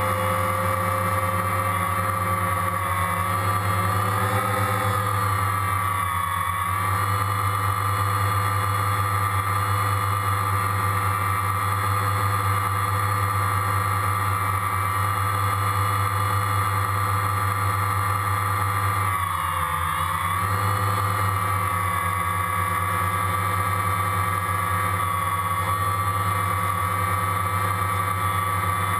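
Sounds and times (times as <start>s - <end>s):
aircraft engine drone: 0.0s - 28.9s.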